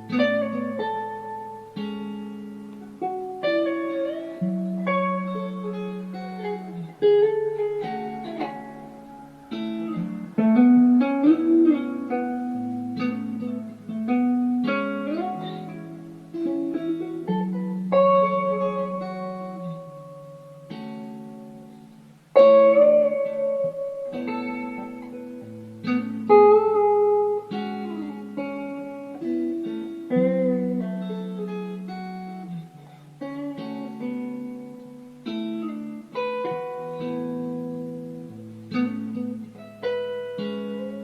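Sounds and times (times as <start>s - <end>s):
slow plucked guitar: 0.0s - 41.0s.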